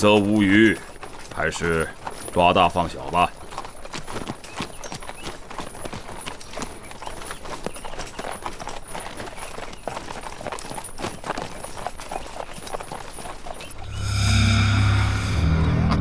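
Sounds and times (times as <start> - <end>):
horse hooves clopping: 0.0 - 14.4.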